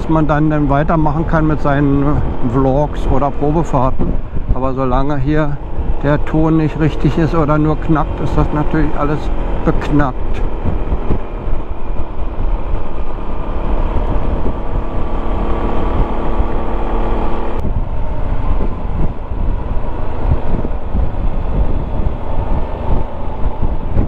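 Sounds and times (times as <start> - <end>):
scooter engine drone: 0.0 - 24.0
wind rumble on microphone: 0.0 - 24.0.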